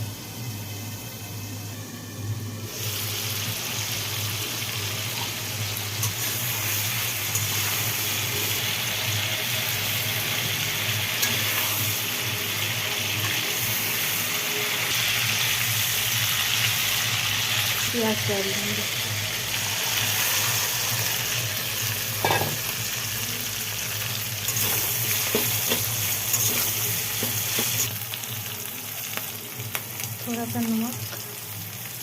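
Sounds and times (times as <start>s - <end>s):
food frying in hot oil: 2.7s - 32.0s.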